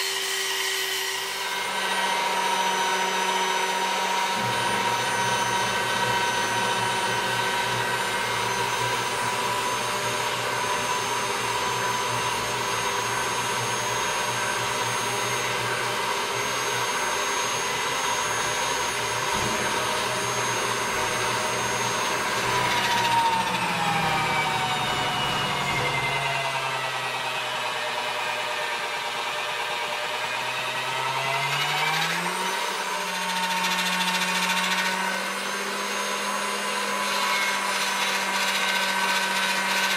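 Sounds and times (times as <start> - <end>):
pasta machine motor whining: 0.0 - 39.9.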